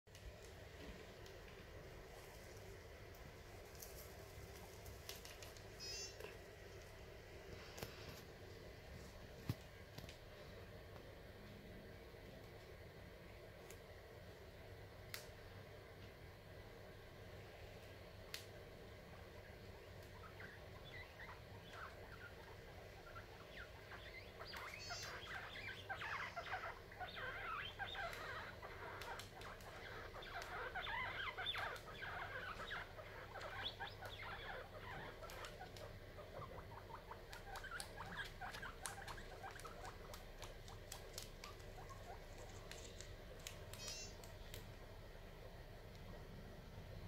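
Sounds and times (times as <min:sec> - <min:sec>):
guinea pigs chewing corn husks: 0:00.1 - 0:10.3, 0:17.8 - 0:46.3.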